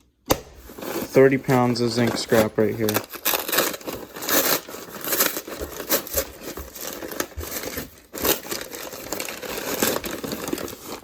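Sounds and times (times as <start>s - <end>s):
cardboard box crinkling and rustling: 0.7s - 11.0s.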